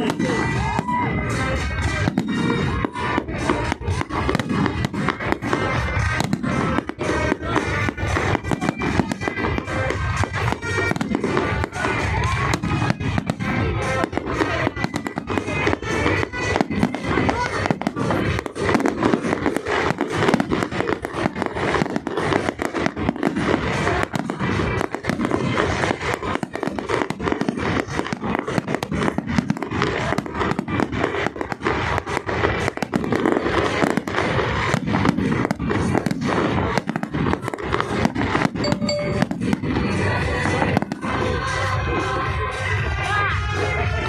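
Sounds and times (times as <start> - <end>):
fireworks bangs and crackling: 0.0 - 44.0
music: 0.0 - 44.0.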